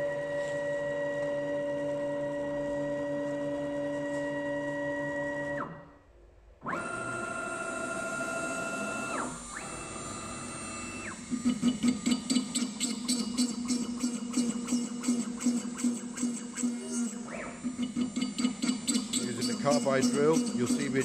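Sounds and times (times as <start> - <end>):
cnc router motors whining: 0.0 - 6.0, 6.6 - 21.0.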